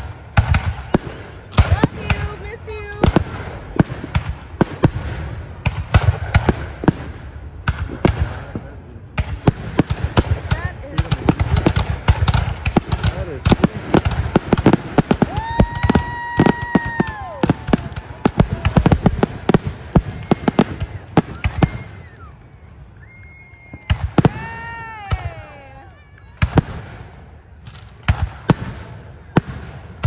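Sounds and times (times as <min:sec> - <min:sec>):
fireworks bangs and crackles: 0:00.0 - 0:30.0
whistling fireworks: 0:00.0 - 0:30.0.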